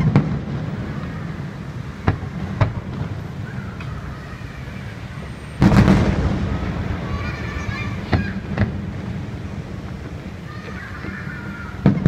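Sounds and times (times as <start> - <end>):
distant fireworks bangs: 0.0 - 12.0.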